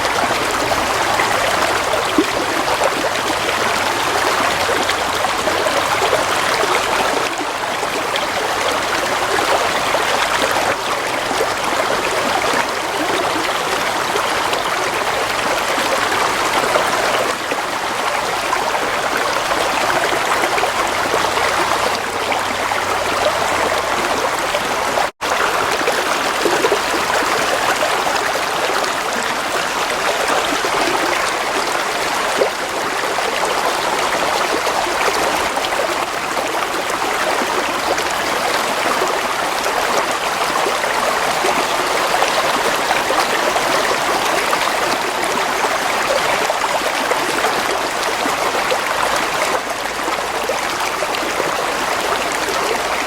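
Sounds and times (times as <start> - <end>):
babbling stream: 0.0 - 53.0.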